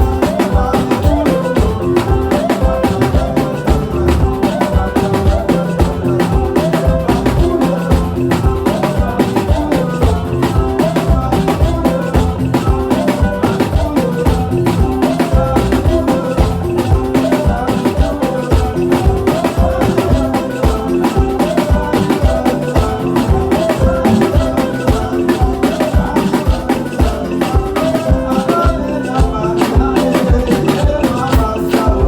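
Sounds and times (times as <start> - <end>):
drums and percussion beat: 0.0 - 32.0
electric bass guitar: 0.0 - 32.0.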